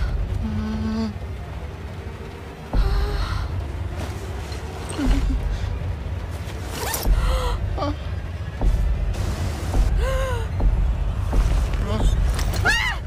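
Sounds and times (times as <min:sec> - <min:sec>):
low pulsing rumble: 0:00.0 - 0:13.0.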